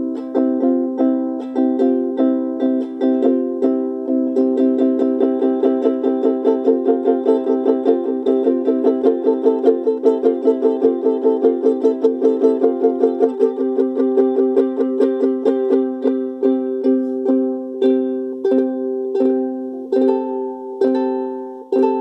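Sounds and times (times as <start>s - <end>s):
ukulele strumming: 0.0s - 22.0s.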